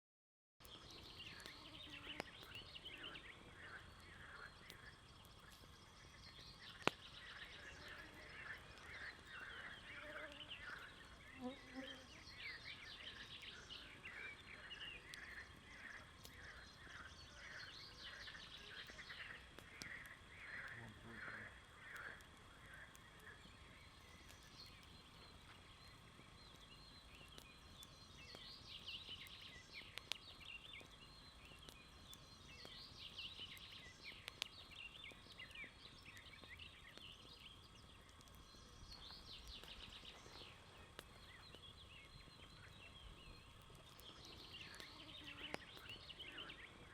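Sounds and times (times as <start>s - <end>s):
birds chirping: 0.6s - 46.9s
background hiss: 0.7s - 46.9s.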